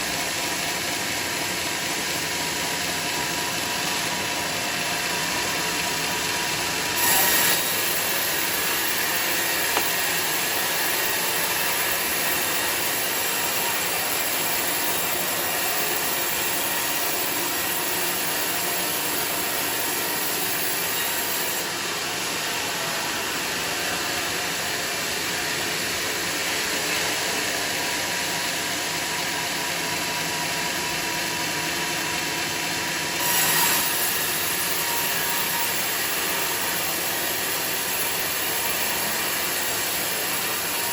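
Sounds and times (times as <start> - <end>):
sawmill machinery hissing: 0.0 - 31.6, 33.1 - 40.9.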